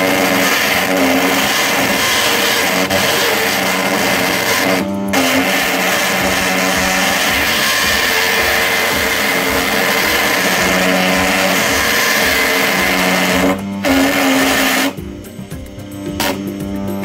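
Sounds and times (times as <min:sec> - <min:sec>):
sandpaper on spinning wood: 0:00.0 - 0:17.0
small lathe motor whining: 0:00.0 - 0:17.0.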